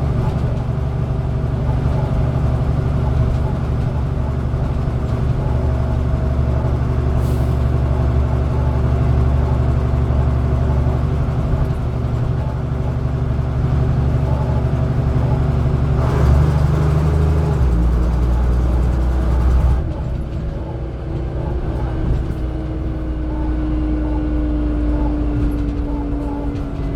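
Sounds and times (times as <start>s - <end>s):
bus engine running under load: 0.0s - 26.9s.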